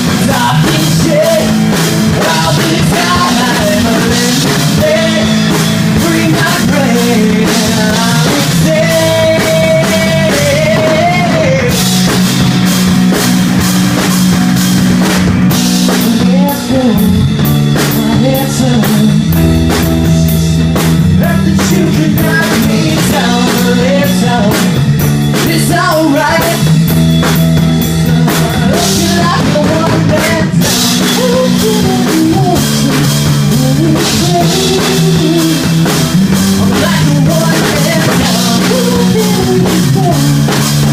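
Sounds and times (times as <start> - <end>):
person singing: 0.0 - 12.0, 15.8 - 26.9, 27.8 - 40.9
bass guitar: 0.0 - 40.9
distorted electric guitars: 0.0 - 40.9
drum kit: 0.0 - 40.9.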